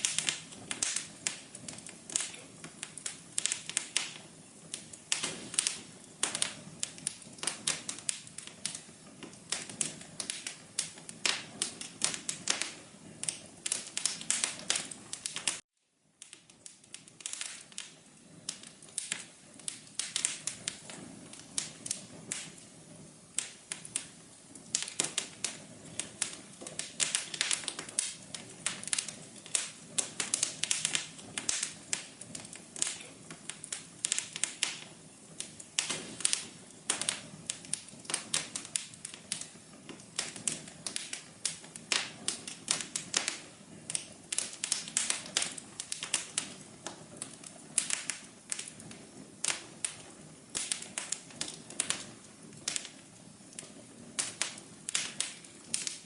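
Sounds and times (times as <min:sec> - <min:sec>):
fire crackling: 0:00.0 - 0:56.0
soft low hiss: 0:00.0 - 0:56.0.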